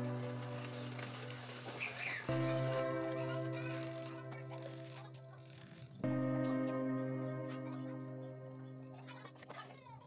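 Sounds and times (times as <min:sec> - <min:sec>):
held music chord: 0:00.0 - 0:10.0.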